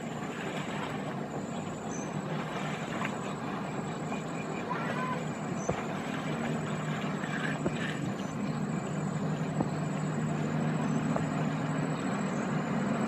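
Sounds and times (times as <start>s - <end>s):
diesel boat engine droning: 0.0s - 13.0s.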